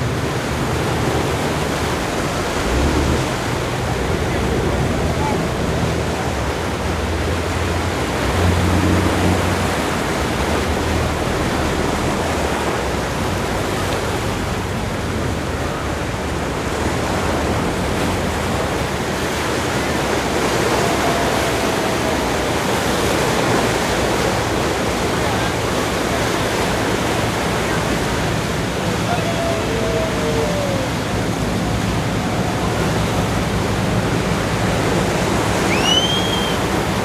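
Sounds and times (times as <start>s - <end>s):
ocean surf rushing: 0.0s - 37.0s.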